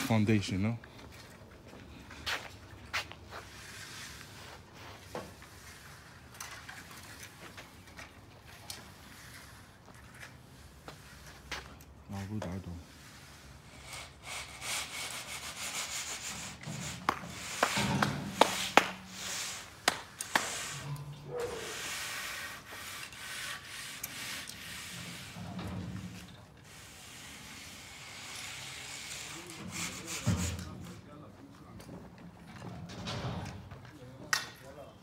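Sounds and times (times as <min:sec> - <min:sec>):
tools scraping concrete: 0:02.9 - 0:31.0.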